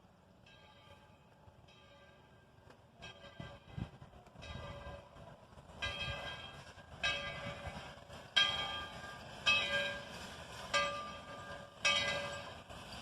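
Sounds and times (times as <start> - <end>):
low rumble of train: 0.0 - 13.0
steam locomotive bell ringing: 0.3 - 13.0.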